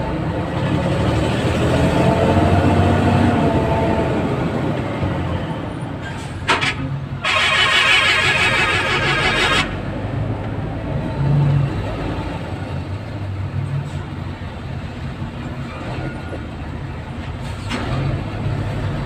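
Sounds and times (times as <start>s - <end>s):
engine rumble: 0.0s - 19.0s
road noise: 0.0s - 19.0s.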